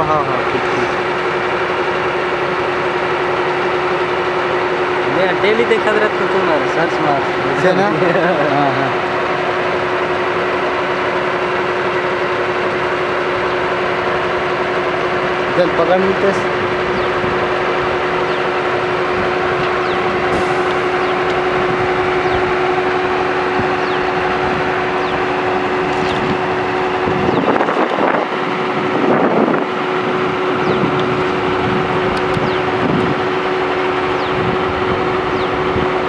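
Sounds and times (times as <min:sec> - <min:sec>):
drilling rig machine drone: 0:00.0 - 0:36.0.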